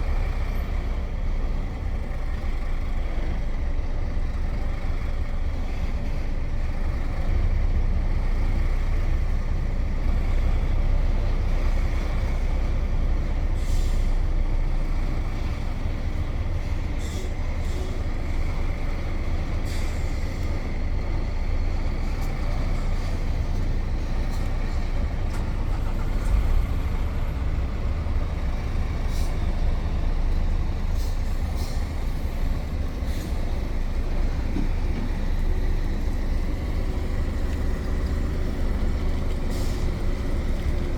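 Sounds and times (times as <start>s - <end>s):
road noise: 0.0s - 40.9s
truck engine rumble: 0.0s - 40.9s.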